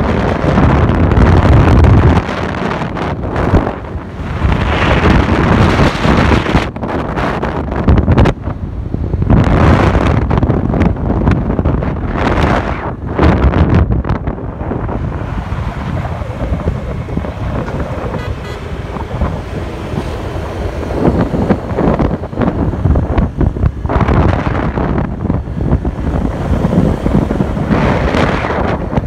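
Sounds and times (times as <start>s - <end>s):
road and traffic noise: 0.0s - 29.0s
wind buffeting microphone: 0.0s - 29.0s.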